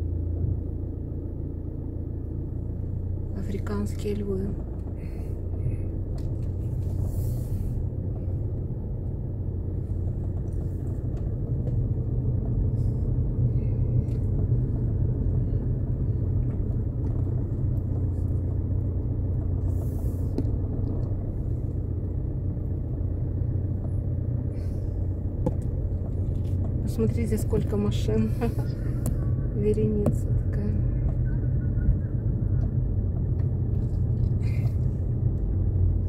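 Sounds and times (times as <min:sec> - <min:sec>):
car road rumble from inside: 0:00.0 - 0:36.0.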